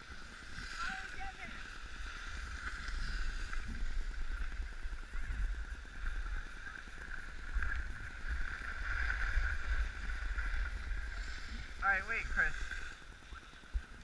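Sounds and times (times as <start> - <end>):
skis sliding over snow: 0.0 - 14.0
wind rumbling on microphone: 0.0 - 14.0.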